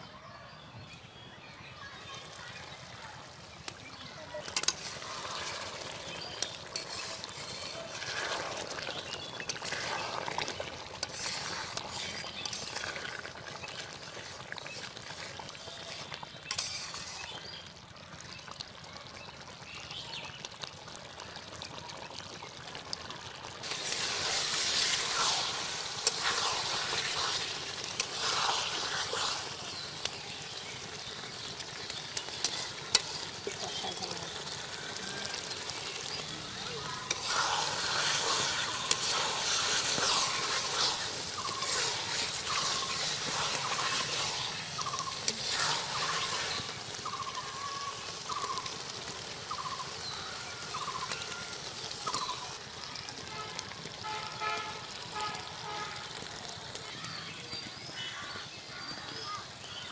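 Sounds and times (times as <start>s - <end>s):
curry bubbling and sizzling: 0.2s - 59.9s.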